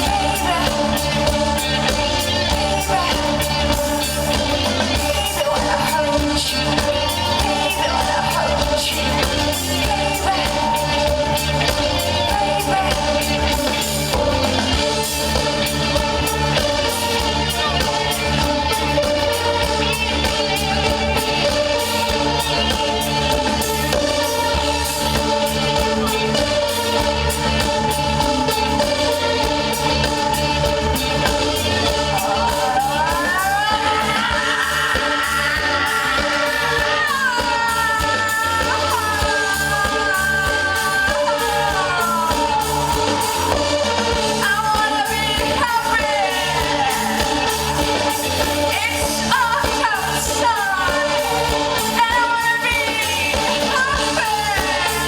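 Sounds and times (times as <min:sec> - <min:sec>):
live band music: 0:00.0 - 0:55.0.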